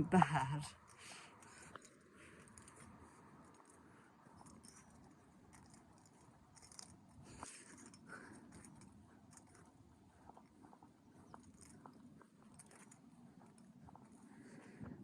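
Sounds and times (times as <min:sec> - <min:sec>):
faint low rumble: 0:00.0 - 0:15.0
soft clicks and crackles: 0:00.2 - 0:15.0.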